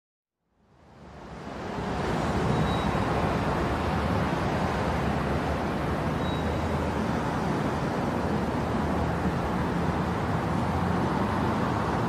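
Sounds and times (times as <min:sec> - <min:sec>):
wash of noise: 0:00.7 - 0:12.0.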